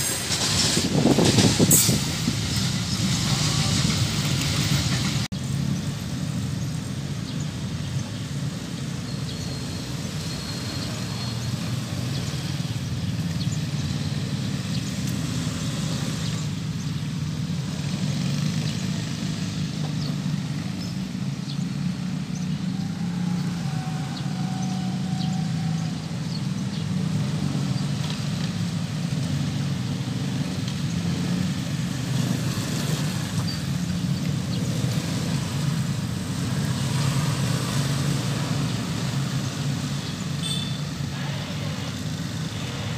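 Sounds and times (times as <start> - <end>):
traffic engine hum: 0.0 - 42.9.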